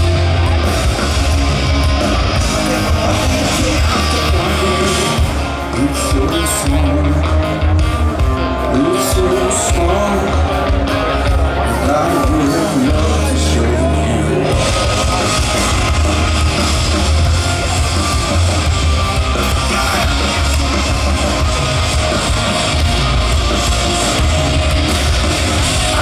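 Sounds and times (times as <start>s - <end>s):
distorted electric guitars: 0.0s - 26.0s
punk rock band playing: 0.0s - 26.0s.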